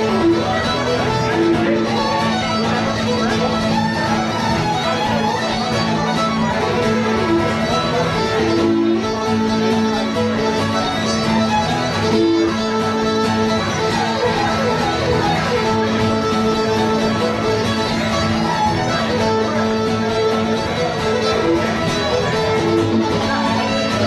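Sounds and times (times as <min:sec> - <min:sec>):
acoustic guitar accompaniment: 0:00.0 - 0:24.0
fiddle melody: 0:00.0 - 0:24.0.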